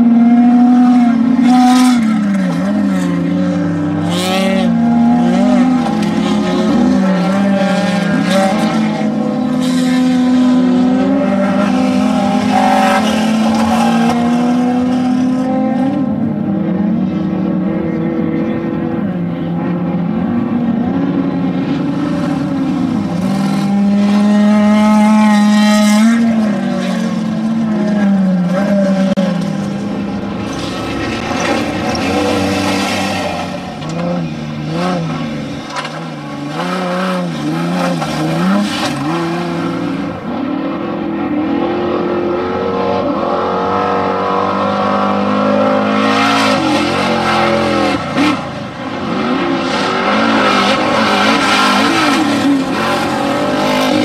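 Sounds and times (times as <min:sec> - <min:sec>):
off-road vehicle engines revving: 0:00.0 - 0:54.0.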